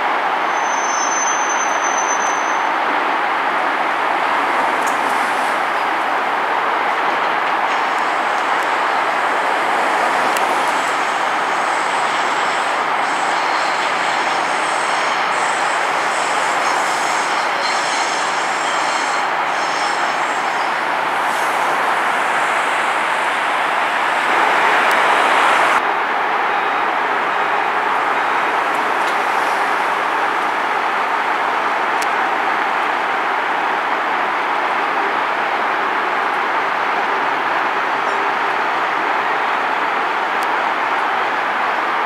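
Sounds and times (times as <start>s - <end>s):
electric trains rumbling: 0.0s - 42.0s
traffic noise: 0.0s - 42.0s.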